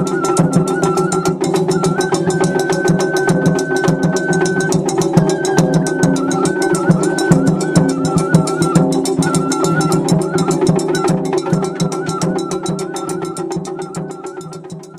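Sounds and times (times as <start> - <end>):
festival music with drums: 0.0 - 14.9.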